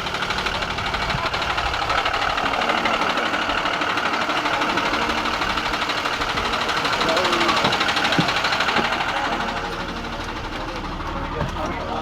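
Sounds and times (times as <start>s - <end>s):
engine running with rapid pulsing: 0.0s - 12.0s.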